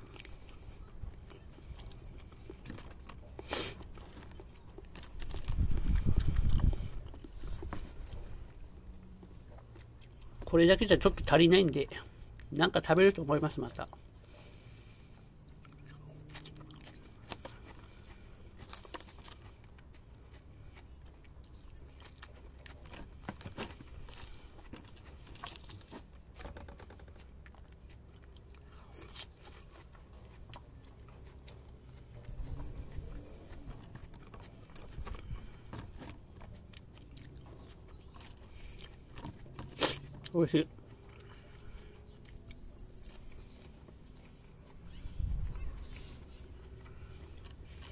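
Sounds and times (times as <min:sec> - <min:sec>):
chewing crisp lettuce: 0:00.0 - 0:47.9.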